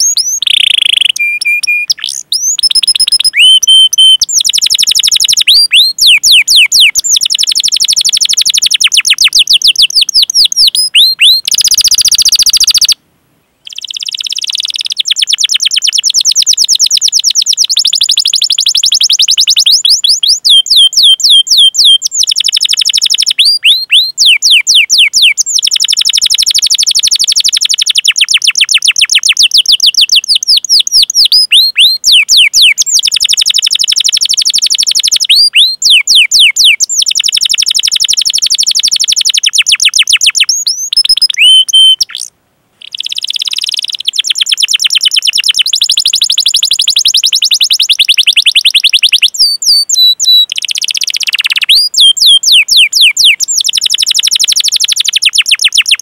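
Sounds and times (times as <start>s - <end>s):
canary singing trills: 0.0s - 13.0s, 13.6s - 56.0s.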